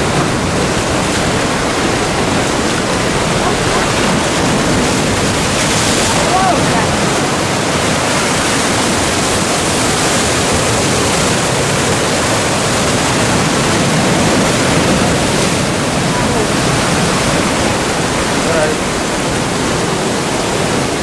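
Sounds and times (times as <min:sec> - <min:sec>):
sea surf breaking on rocks: 0:00.0 - 0:21.0.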